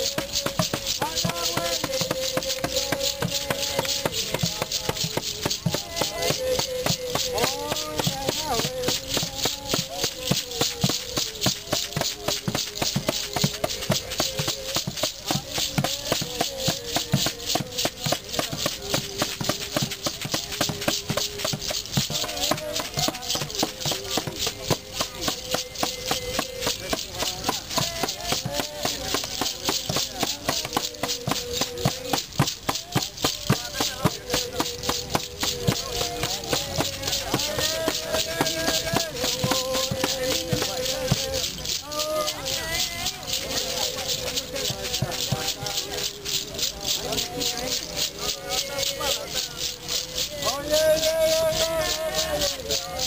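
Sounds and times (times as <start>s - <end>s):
hand drums beating fast rhythm: 0.0s - 53.0s
voices singing slow chant: 0.0s - 53.0s.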